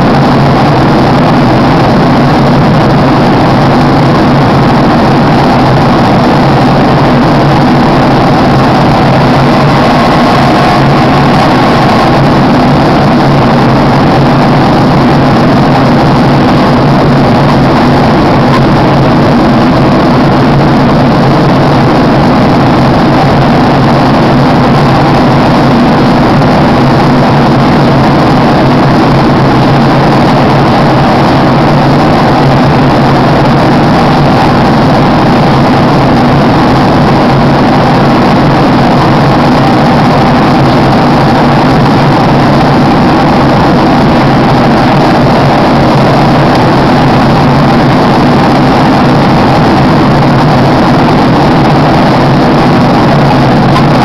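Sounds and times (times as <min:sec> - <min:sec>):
aircraft cabin engine drone: 0:00.0 - 0:54.0
low hum: 0:00.0 - 0:54.0.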